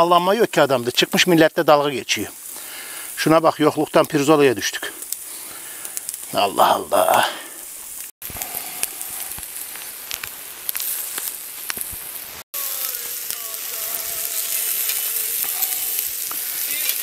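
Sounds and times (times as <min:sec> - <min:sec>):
fat crackling: 0:00.0 - 0:17.0
meat sizzling on a grill: 0:00.0 - 0:17.0.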